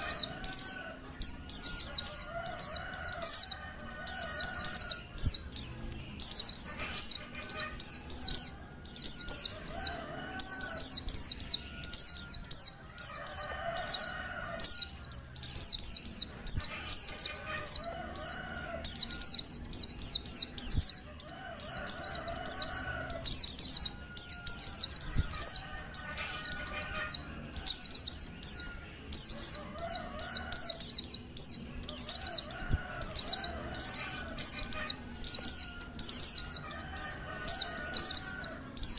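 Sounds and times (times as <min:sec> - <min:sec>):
bird high thin calls: 0:00.0 - 0:38.9.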